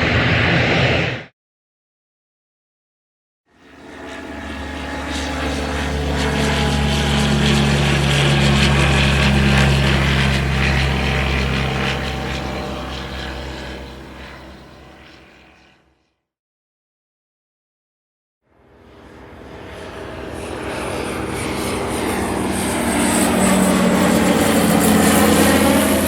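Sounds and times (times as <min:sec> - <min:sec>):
propeller aircraft flying past: 0:00.0 - 0:01.3, 0:03.5 - 0:16.1, 0:18.5 - 0:26.0.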